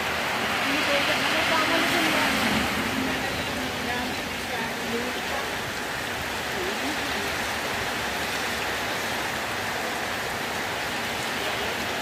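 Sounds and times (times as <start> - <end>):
heavy rain on wet road: 0.0 - 12.0.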